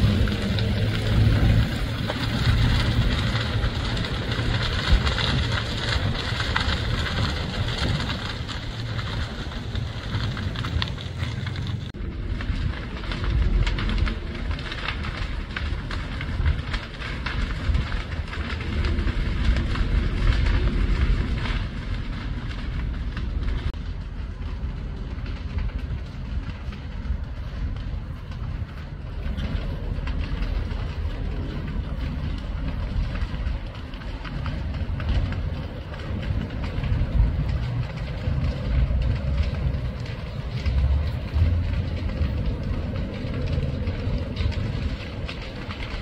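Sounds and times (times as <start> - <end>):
grass fire crackling and popping: 0.0 - 46.0
steady low rumble: 0.0 - 46.0.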